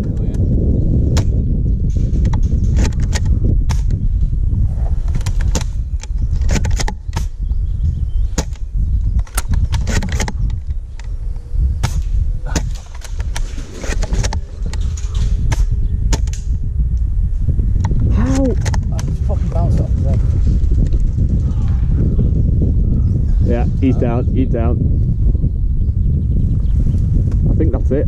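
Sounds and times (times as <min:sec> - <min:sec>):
heavy low rumble: 0:00.0 - 0:28.0.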